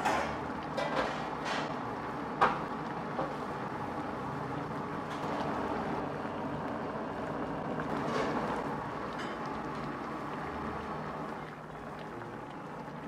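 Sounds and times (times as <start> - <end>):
stew bubbling in a wok: 0.0 - 13.0.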